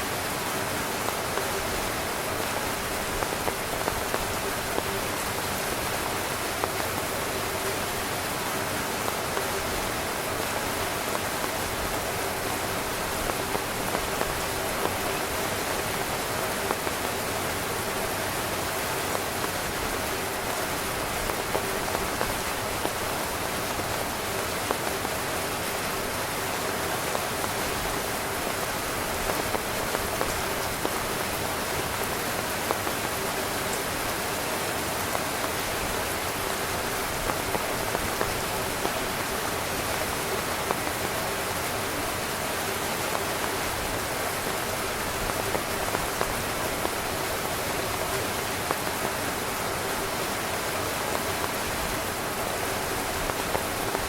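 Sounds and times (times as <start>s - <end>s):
rain falling on a tent: 0.0s - 54.0s.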